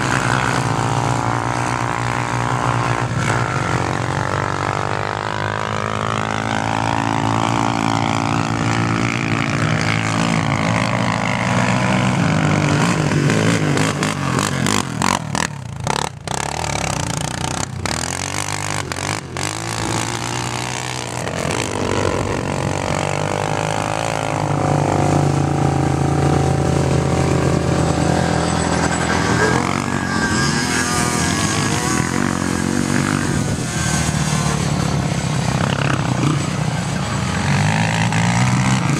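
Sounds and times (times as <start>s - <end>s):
quad engines revving: 0.0s - 38.9s.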